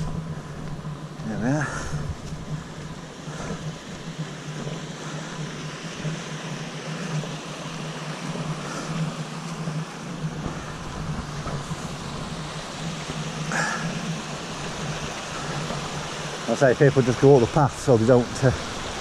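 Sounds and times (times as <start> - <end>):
steady low hum: 0.0 - 19.0
stream running over rocks: 0.0 - 19.0.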